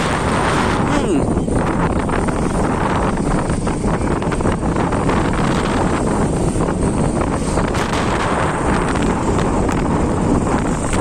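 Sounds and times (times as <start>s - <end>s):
motorcycle noise: 0.0s - 11.0s
wind roaring over microphone: 0.0s - 11.0s.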